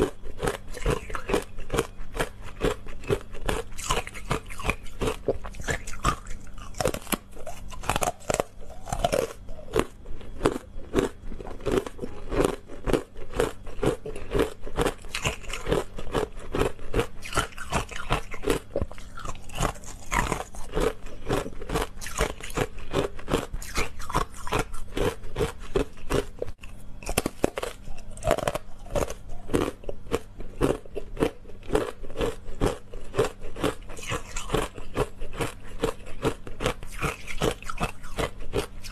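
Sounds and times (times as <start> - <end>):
teeth crunching frozen ice: 0.0 - 38.9.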